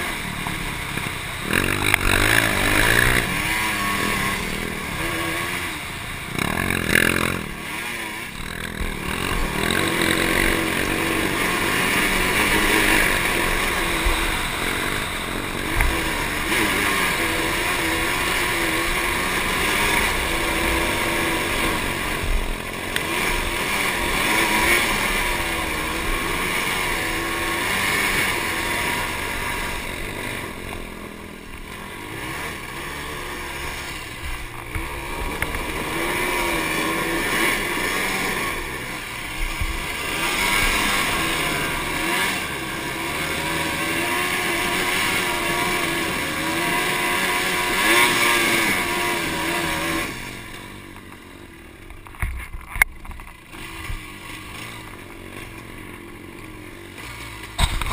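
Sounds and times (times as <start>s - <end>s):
quad engine revving: 0.0s - 57.9s.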